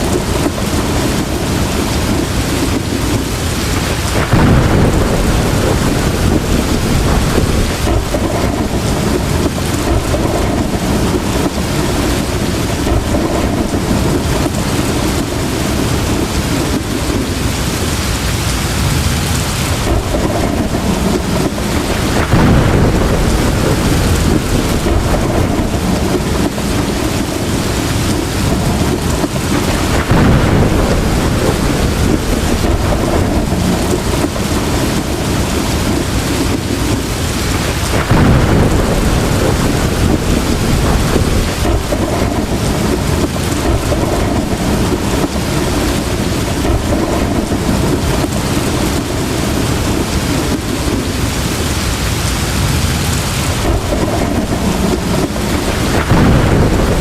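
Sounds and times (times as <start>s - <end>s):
heavy rain pouring: 0.0s - 57.0s
low thunder rumbles: 0.0s - 57.0s.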